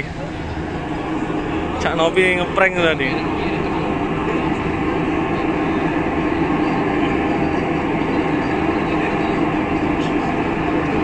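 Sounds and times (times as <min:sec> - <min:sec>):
speakers rumbling roar: 0:00.0 - 0:11.0.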